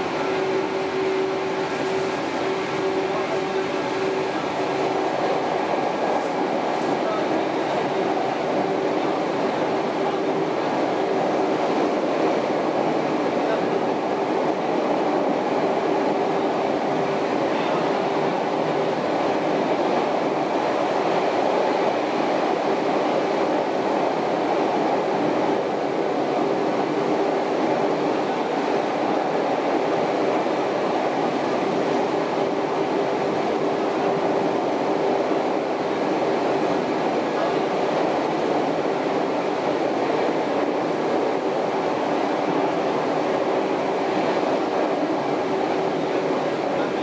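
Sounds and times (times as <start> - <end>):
train wheels rushing roar: 0.0 - 47.0.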